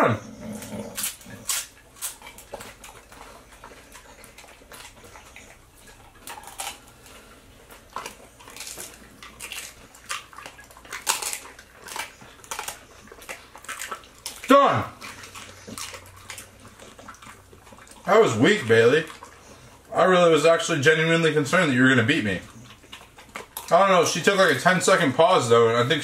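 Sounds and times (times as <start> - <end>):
dog chewing wetly: 0.2 - 26.0.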